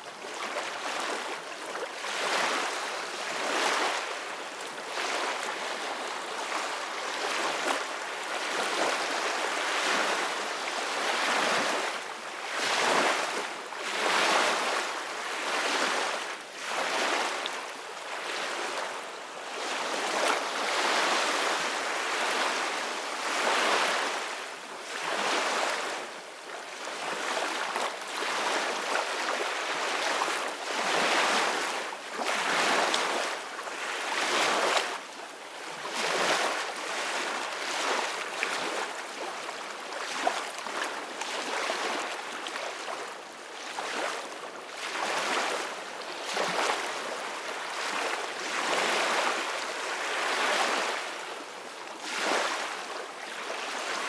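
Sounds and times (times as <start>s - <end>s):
gentle ocean waves: 0.0s - 54.0s.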